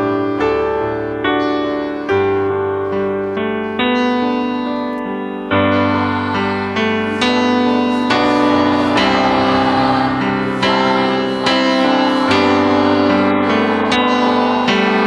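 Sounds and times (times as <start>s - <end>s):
keyboard playing held chords: 0.0s - 15.0s.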